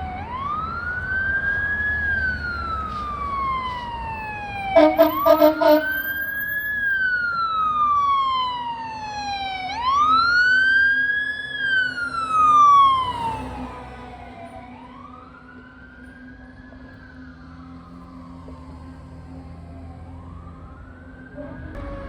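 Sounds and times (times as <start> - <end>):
fire engine siren wailing: 0.0 - 22.0.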